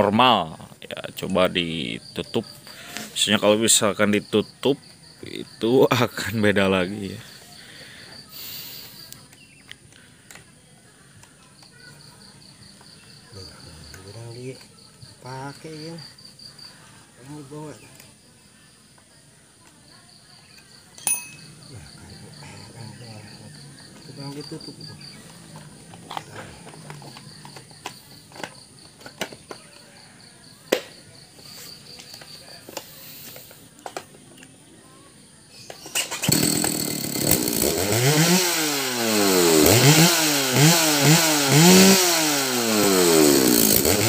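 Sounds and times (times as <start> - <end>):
cricket chirping: 0.0 - 44.0.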